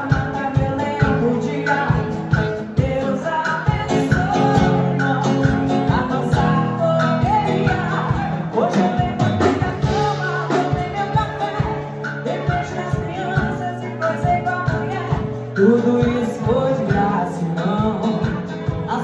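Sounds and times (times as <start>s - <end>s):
guitar: 0.0s - 19.0s
live band music: 0.0s - 19.0s
person singing: 0.0s - 19.0s.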